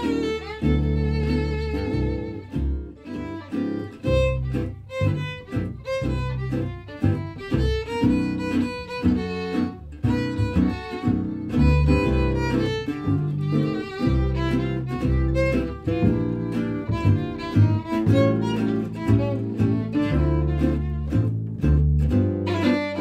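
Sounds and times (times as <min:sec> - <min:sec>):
bowed violin melody: 0:00.0 - 0:23.0
plucked double bass: 0:00.0 - 0:23.0
strummed acoustic guitar: 0:00.0 - 0:23.0.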